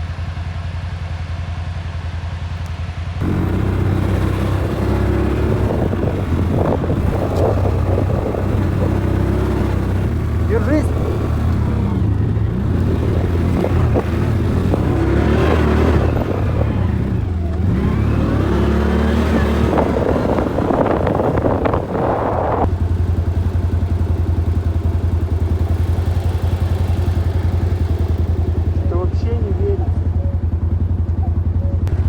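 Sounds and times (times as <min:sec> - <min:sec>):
quad bike engine running: 0:00.0 - 0:32.0.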